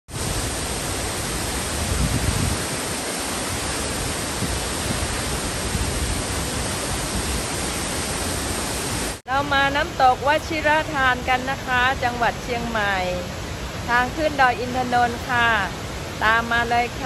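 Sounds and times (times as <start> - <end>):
waterfall crashing: 0.1 - 17.0.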